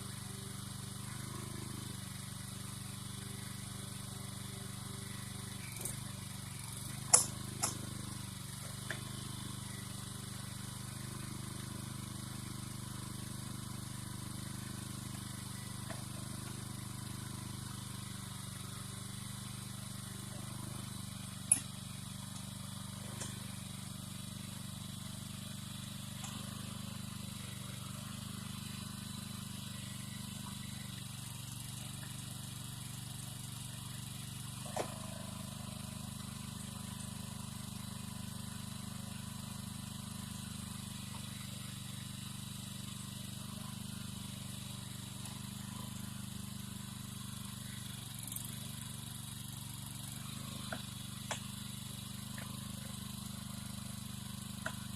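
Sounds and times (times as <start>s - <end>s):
small engine idling: 0.0s - 54.9s.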